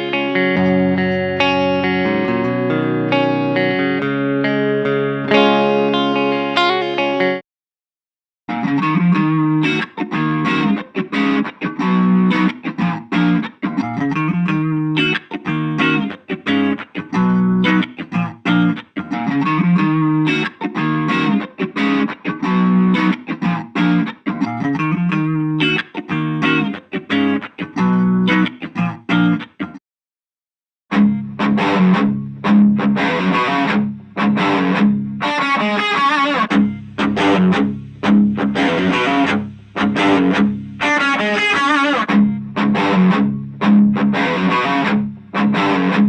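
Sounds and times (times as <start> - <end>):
electric guitar riff: 0.0 - 7.4, 8.5 - 29.8, 30.9 - 46.0.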